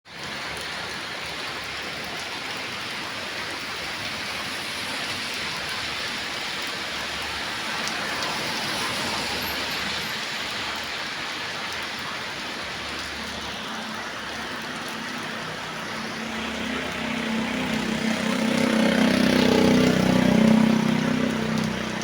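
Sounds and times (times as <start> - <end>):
steady rain hissing: 0.1 - 22.0.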